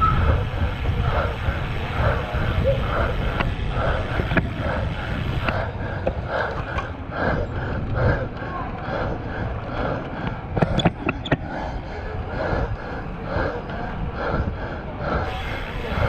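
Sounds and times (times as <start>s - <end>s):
bicycle road rumble: 0.0s - 16.0s
wind rushing over microphone: 0.0s - 16.0s.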